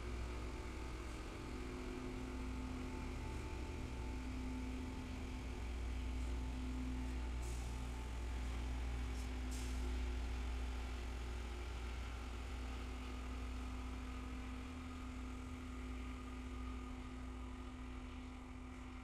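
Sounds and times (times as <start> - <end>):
diesel train engines rumbling: 0.0 - 18.4.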